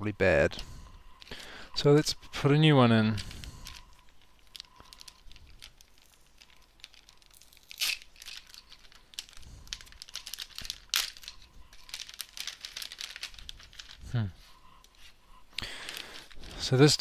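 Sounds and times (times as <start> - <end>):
plastic packaging crinkling: 1.2 - 17.0.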